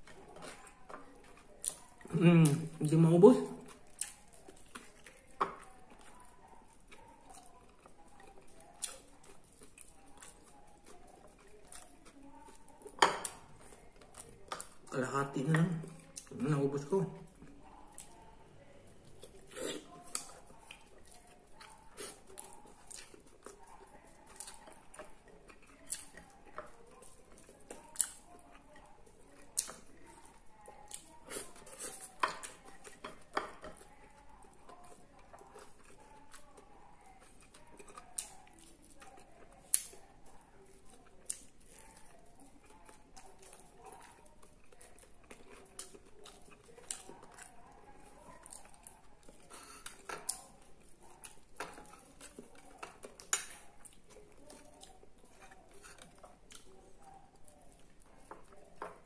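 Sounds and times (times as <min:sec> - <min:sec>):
man chewing: 0:03.5 - 0:14.8, 0:19.1 - 0:58.9.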